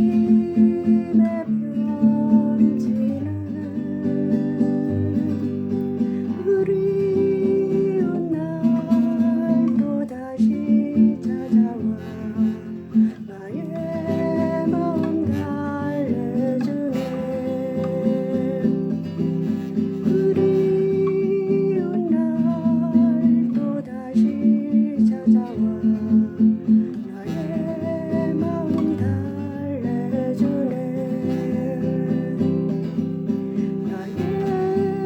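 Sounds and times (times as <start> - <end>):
acoustic guitar music: 0.0 - 35.0.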